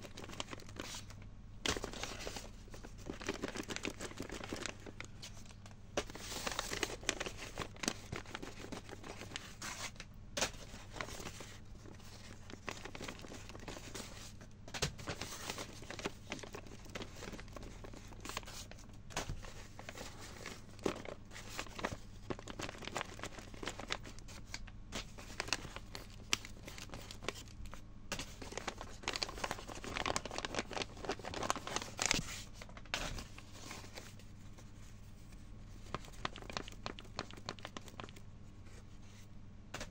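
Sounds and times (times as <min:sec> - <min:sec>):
paper crinkling and tearing: 0:00.0 - 0:38.2.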